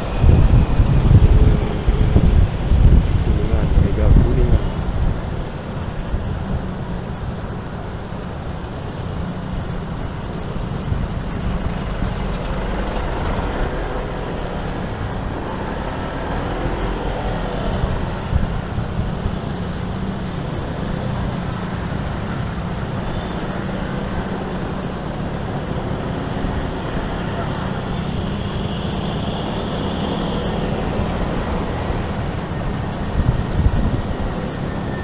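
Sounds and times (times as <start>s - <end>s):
city traffic: 0.0s - 35.0s.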